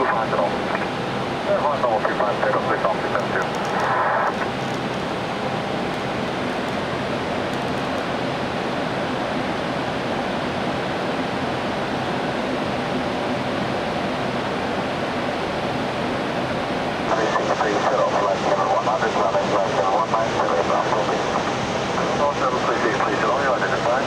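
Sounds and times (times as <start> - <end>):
airflow and air-conditioning rushing: 0.0 - 24.0.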